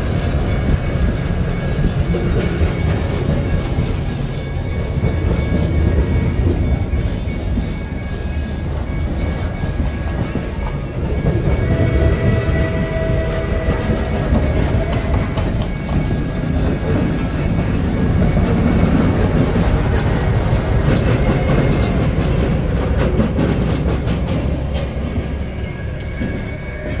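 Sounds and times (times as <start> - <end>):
diesel locomotive passing: 0.0 - 27.0
train wheels clicking over rail joints: 0.0 - 27.0.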